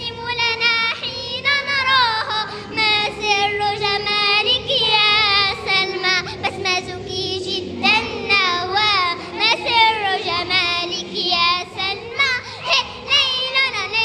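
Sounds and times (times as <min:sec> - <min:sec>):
girls singing: 0:00.0 - 0:14.0.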